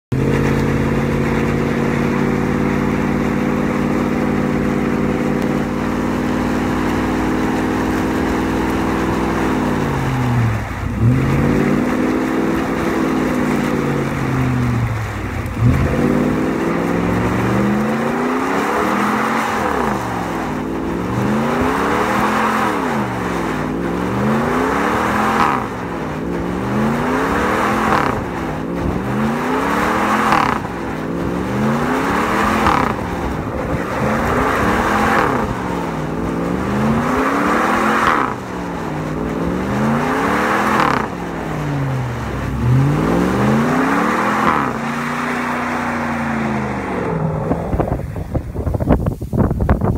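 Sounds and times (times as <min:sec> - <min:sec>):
truck engine revving: 0:00.0 - 0:49.9
tyres spinning on pavement: 0:00.1 - 0:49.9.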